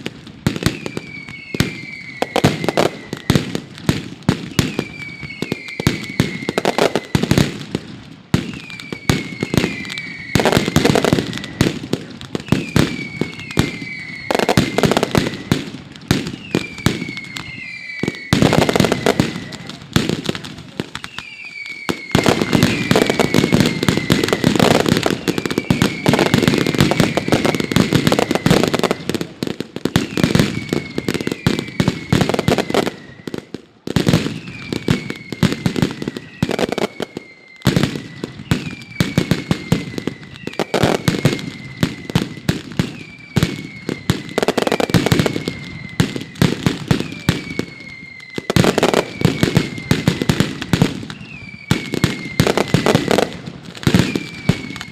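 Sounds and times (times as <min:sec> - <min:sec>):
firecrackers banging: 0:00.0 - 0:54.9
short descending whistles: 0:00.7 - 0:03.5, 0:04.5 - 0:07.4, 0:08.4 - 0:11.7, 0:12.4 - 0:15.5, 0:16.3 - 0:19.8, 0:21.0 - 0:29.0, 0:30.0 - 0:33.4, 0:34.3 - 0:50.4, 0:51.0 - 0:53.4, 0:54.0 - 0:54.9.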